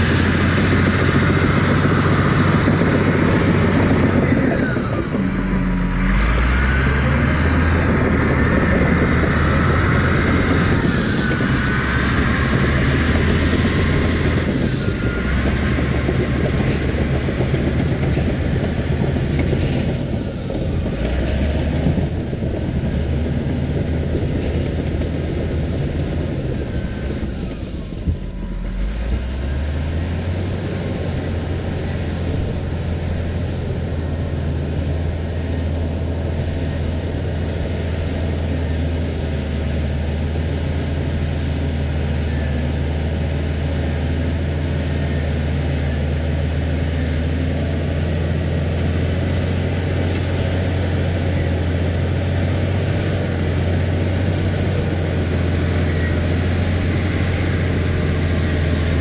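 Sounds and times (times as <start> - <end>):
diesel engine droning under load: 0.0 - 59.0.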